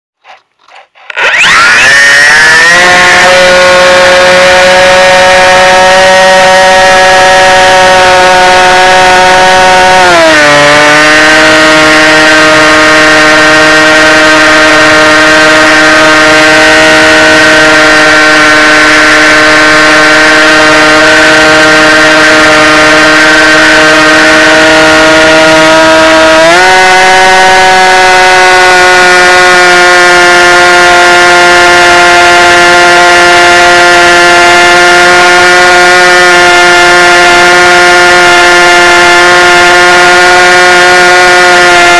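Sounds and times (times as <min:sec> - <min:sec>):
electric motor and propeller whine: 0:01.1 - 0:41.9.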